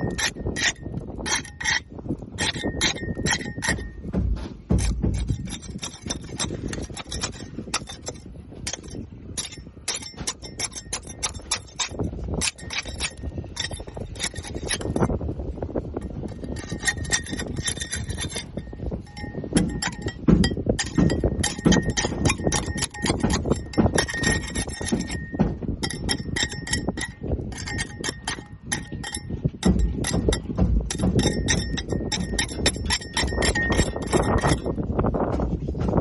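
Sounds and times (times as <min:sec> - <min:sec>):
barnacles scraped off boat hull: 0:00.0 - 0:34.8.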